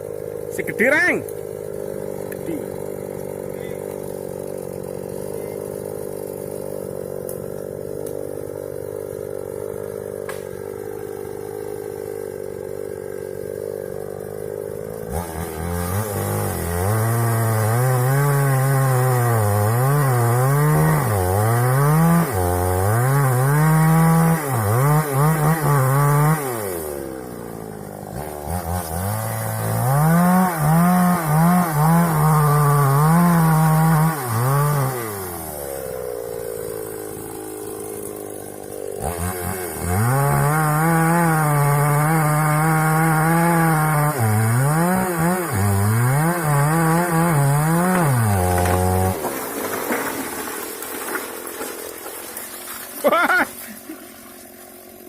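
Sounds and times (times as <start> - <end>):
chainsaw idling and cutting wood: 0.0 - 55.0.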